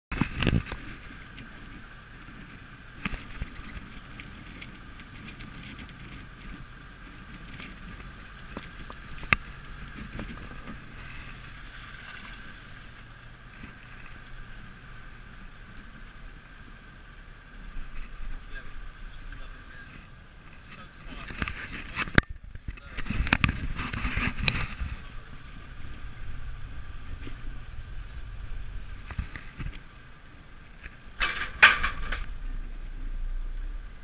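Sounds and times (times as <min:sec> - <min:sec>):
jeep engine and road noise: 0:00.1 - 0:34.0.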